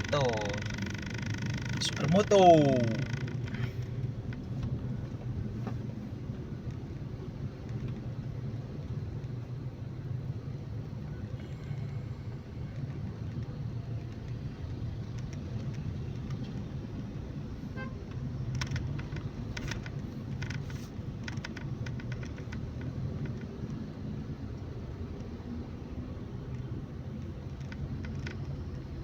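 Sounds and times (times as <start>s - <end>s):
car cabin road rumble: 0.0s - 29.0s.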